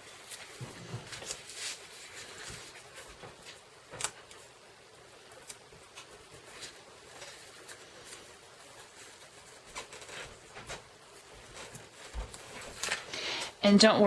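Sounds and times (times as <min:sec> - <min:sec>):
cardstock and tape rustling: 0:00.0 - 0:13.6.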